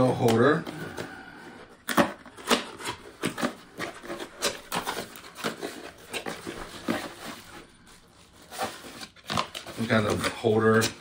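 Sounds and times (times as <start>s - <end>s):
packaging crinkling and clicking: 1.7s - 11.0s.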